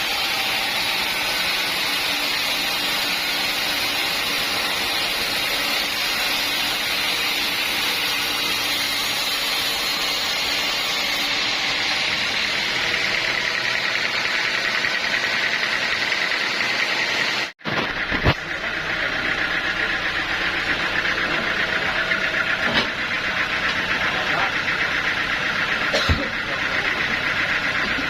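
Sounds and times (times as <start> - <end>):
high-pitched machine whine: 0.0 - 28.0
sawmill machinery hissing rush: 0.0 - 28.0.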